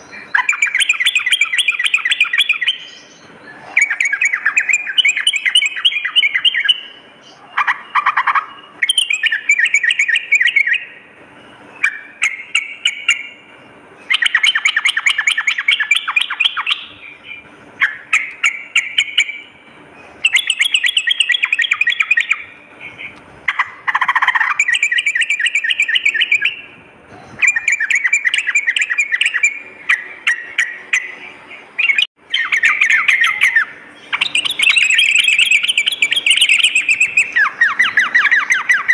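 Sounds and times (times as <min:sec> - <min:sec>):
bulbul singing: 0:00.0 - 0:38.9
faint steady hum: 0:00.0 - 0:38.9.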